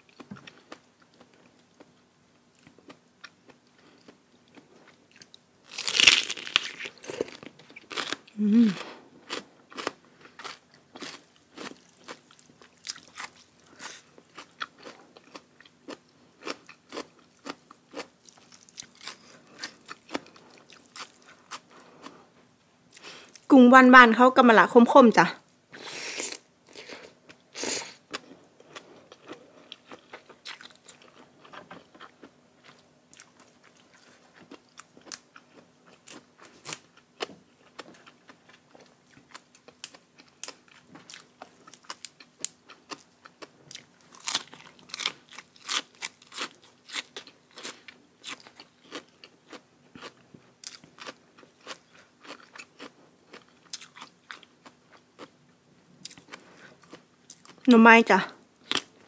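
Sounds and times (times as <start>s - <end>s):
person chewing crunchy food: 0.0s - 2.0s, 2.6s - 23.5s, 25.8s - 55.4s, 56.0s - 57.7s, 58.6s - 59.0s.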